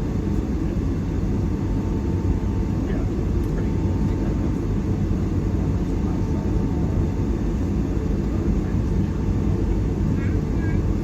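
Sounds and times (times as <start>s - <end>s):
aircraft engines idling: 0.0s - 11.0s.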